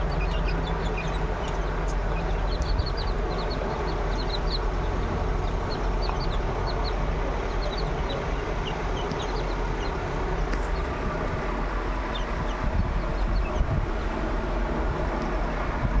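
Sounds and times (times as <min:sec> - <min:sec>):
chicks peeping: 0:00.0 - 0:14.1
rushing background noise: 0:00.0 - 0:16.0.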